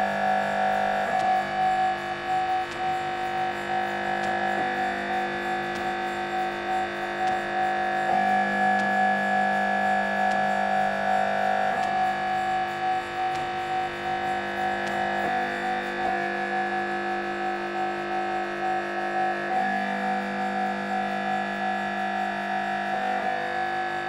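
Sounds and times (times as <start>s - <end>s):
steady humming tones: 0.0s - 24.0s.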